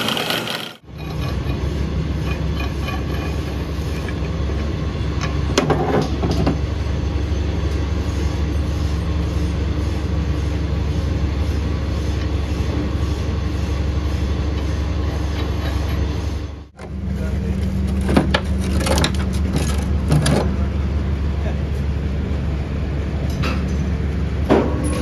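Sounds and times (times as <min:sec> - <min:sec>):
machinery droning: 0:00.0 - 0:25.0.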